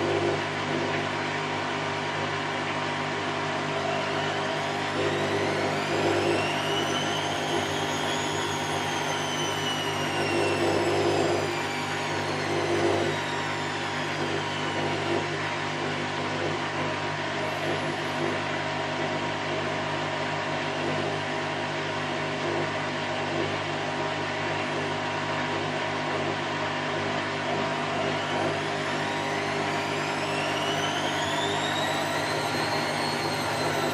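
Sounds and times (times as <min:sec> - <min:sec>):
washing machine spinning: 0:00.0 - 0:19.4, 0:24.2 - 0:33.9.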